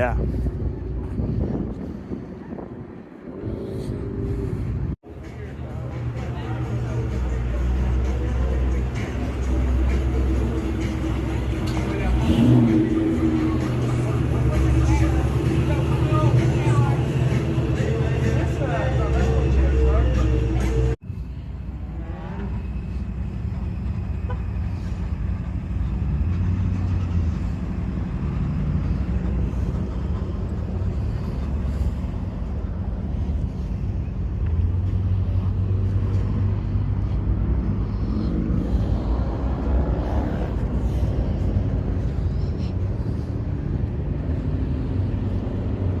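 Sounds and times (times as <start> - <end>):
car engine rumbling: 0.0 - 46.0.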